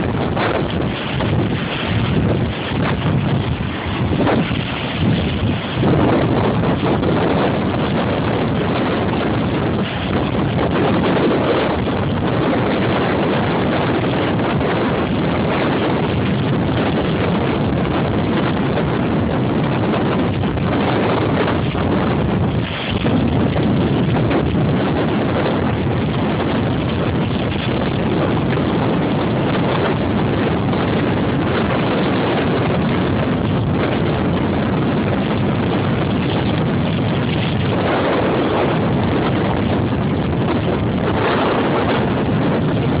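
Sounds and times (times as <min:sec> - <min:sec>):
waves breaking on shore: 0:00.0 - 0:43.0
wind buffeting microphone: 0:00.0 - 0:43.0.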